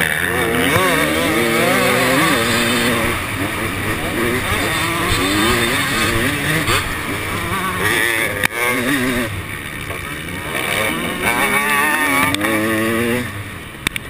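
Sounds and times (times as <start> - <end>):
motocross engine revving: 0.0 - 14.0.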